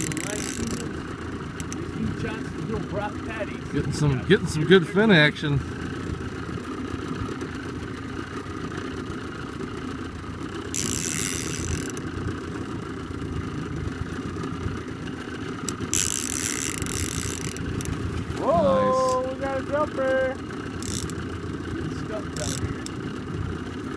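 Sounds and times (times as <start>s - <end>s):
boat engine idling: 0.0s - 23.9s.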